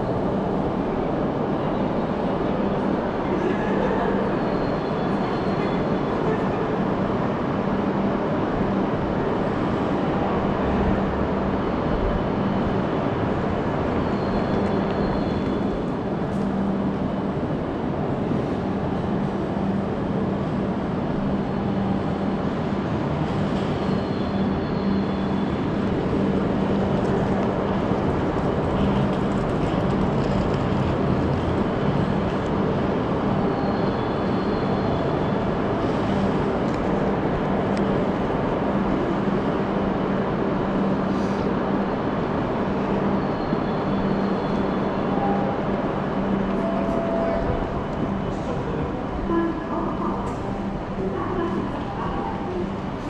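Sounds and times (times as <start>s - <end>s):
station concourse hum: 0.0s - 53.0s.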